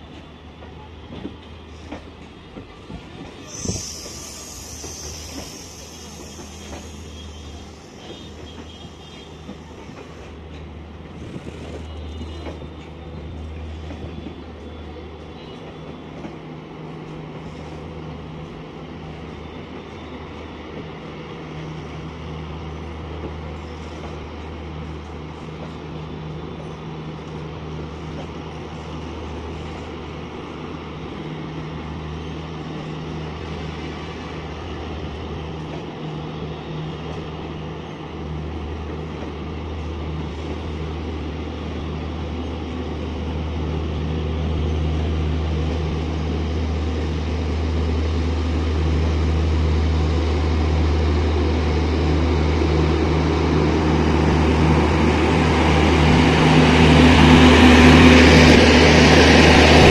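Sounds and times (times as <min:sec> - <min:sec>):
train wheels on rail: 0:00.0 - 0:59.9.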